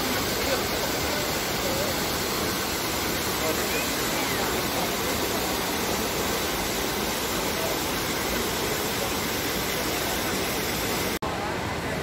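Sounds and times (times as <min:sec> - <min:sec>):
faint crowd voices: 0:00.0 - 0:12.0
fountain water cascading: 0:00.0 - 0:12.0.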